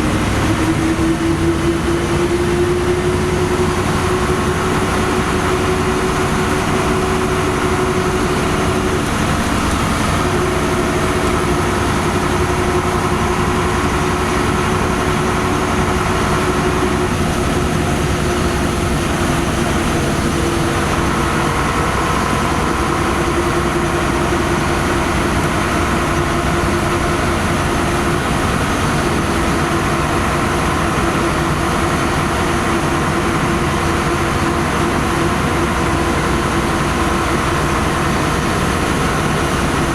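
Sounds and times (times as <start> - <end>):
bus diesel engine drone: 0.0 - 39.9
road noise: 0.0 - 39.9.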